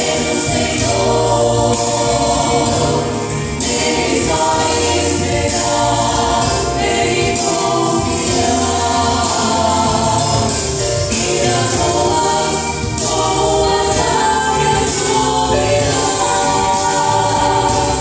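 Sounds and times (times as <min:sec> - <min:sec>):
women singing in harmony: 0:00.0 - 0:18.0.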